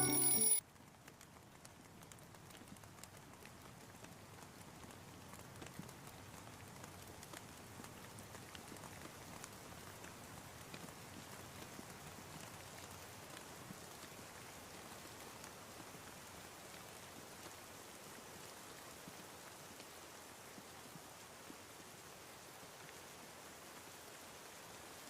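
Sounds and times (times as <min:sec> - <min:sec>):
soft rain falling: 0:00.0 - 0:25.0.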